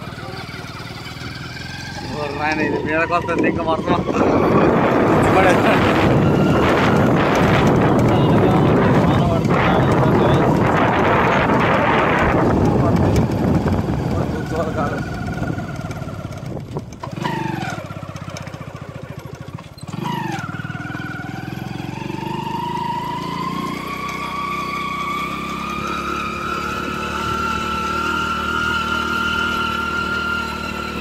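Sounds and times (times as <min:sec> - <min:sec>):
motorcycle engine pulling uphill: 0:00.0 - 0:31.0.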